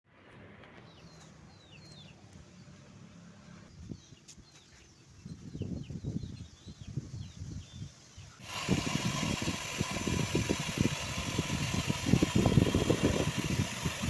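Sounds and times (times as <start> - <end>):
small birds chirping: 0.7 - 14.0.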